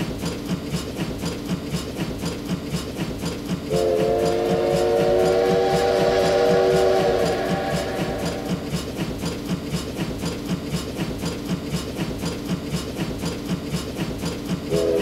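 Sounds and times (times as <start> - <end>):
hiss: 0.0 - 15.0
rhythmic mechanical thumps: 0.0 - 15.0.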